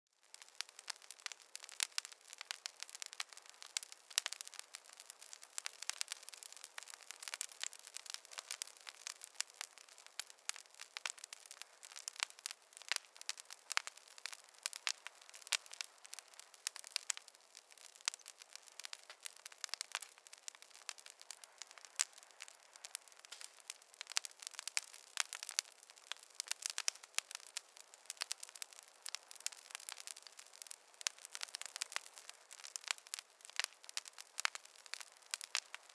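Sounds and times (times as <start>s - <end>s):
soft steady hiss: 0.2s - 35.9s
wood fire crackling: 0.2s - 35.9s.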